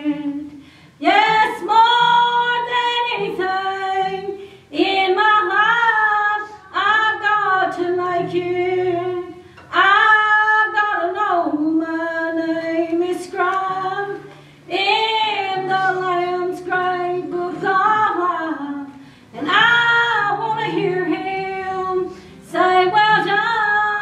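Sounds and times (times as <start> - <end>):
woman singing: 0.0 - 24.0.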